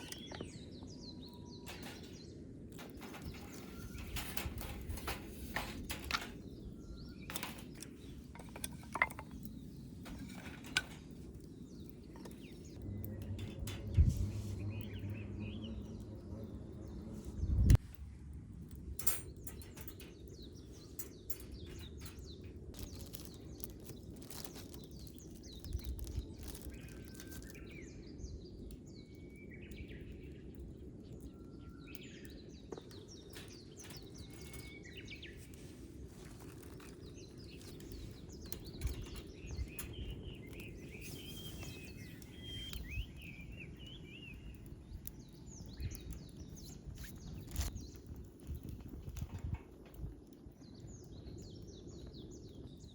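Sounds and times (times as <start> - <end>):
birds chirping: 0.0 - 17.8, 19.0 - 49.3
wood fire crackling: 0.0 - 52.9.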